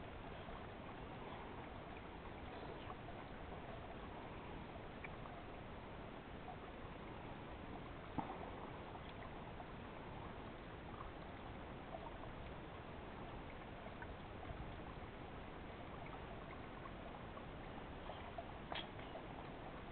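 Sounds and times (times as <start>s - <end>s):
river water flowing: 0.0s - 19.9s.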